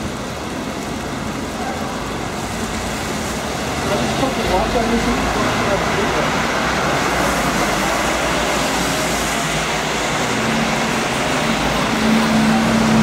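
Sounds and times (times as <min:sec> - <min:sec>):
buses passing: 0:00.0 - 0:13.0
tyre hiss on wet road: 0:00.0 - 0:13.0.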